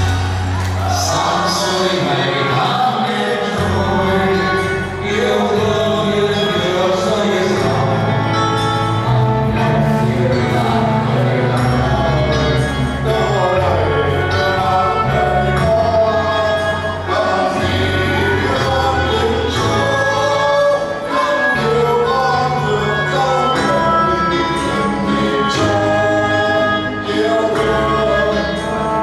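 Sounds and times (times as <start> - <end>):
group singing over loudspeakers: 0.0 - 29.0
instrumental accompaniment: 0.0 - 29.0.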